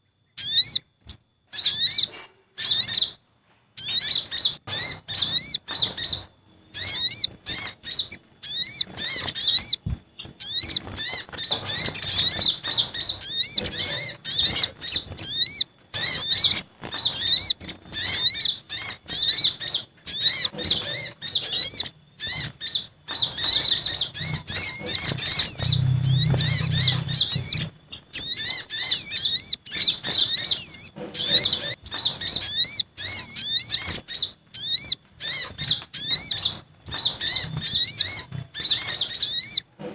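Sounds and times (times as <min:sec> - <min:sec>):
sunbirds chirping rapidly: 0:00.0 - 0:39.9.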